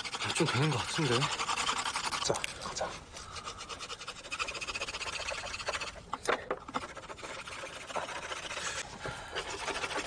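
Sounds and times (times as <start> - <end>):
wooden spindle grinding on board: 0.0 - 10.0.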